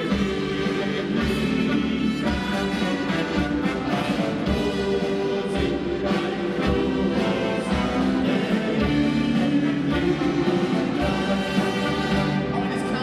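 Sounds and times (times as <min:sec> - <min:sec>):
live folk band playing: 0:00.0 - 0:13.0.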